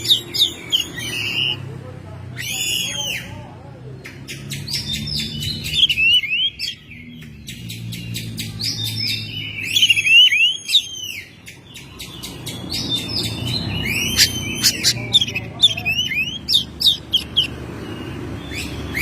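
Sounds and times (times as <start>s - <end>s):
bird singing: 0.0s - 1.7s, 2.3s - 19.0s.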